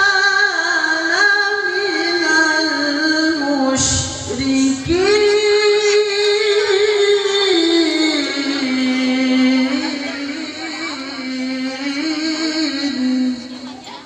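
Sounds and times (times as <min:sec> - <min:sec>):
person reciting melodically: 0:00.0 - 0:14.0.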